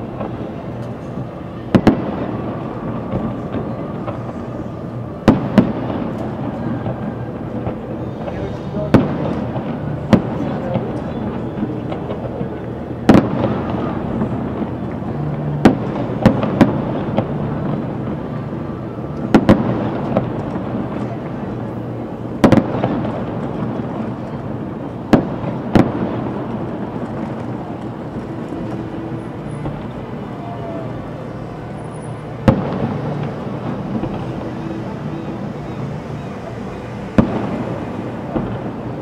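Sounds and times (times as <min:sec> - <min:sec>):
steady background noise: 0:00.0 - 0:39.0.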